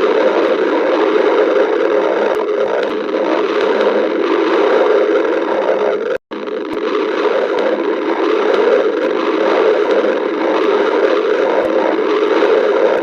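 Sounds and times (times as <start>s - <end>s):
stomach growling: 0.0s - 13.0s.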